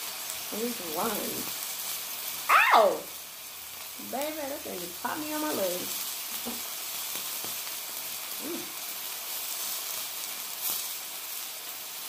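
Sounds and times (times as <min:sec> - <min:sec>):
steak sizzling on griddle: 0:00.0 - 0:12.0.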